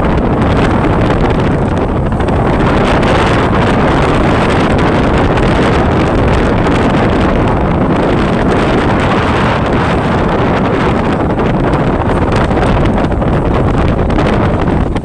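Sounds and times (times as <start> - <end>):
ferry running noise: 0.0 - 15.0
wind buffeting microphone: 0.0 - 15.0.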